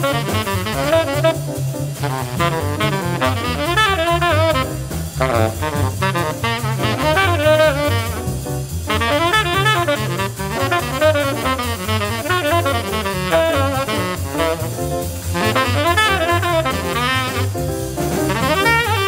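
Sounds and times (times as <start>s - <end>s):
drum kit with ride cymbal: 0.0s - 19.0s
piano: 0.0s - 19.0s
tenor saxophone: 0.0s - 19.0s
walking double bass: 0.0s - 19.0s.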